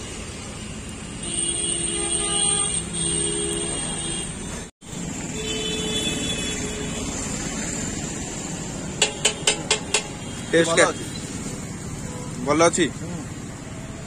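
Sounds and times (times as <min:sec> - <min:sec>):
roadside traffic: 0:00.0 - 0:14.0.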